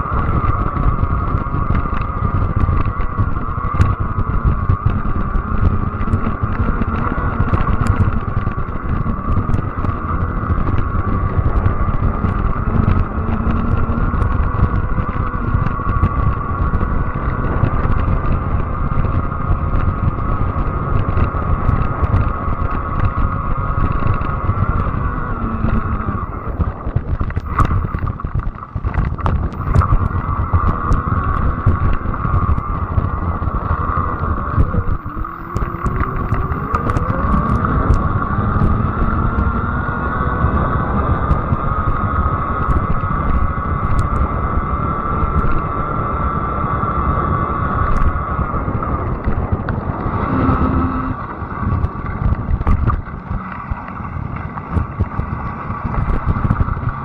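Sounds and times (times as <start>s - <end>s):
electric bike whine: 0.0s - 57.0s
wind rumble on microphone: 0.0s - 57.0s.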